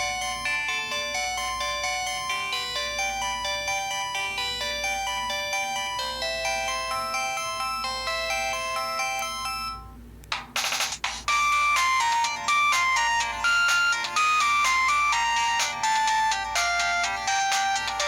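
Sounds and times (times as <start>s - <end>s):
distorted polyphonic ringtone: 0.0s - 10.0s, 10.6s - 18.0s.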